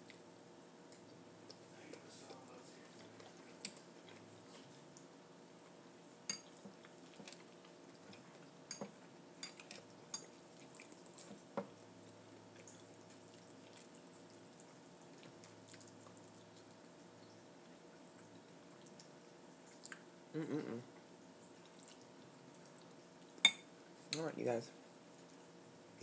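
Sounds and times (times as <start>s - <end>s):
soft wet eating clicks: 0.0s - 4.3s, 4.9s - 5.2s, 6.4s - 23.5s
faint room hum: 0.0s - 26.0s.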